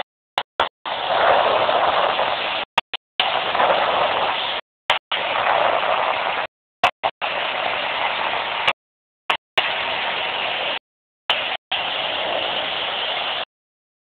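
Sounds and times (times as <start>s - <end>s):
speedboat rushing noise: 0.6s - 8.7s, 9.6s - 13.5s.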